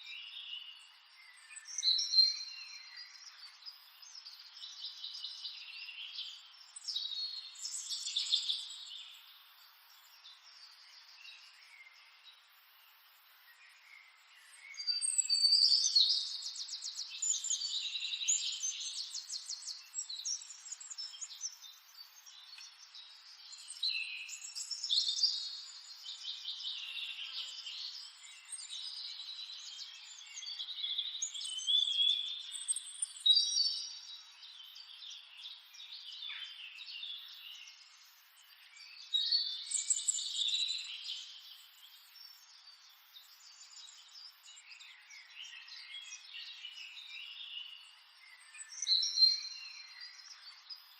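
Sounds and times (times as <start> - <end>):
wild birds chirping and trilling: 0.0 - 50.9.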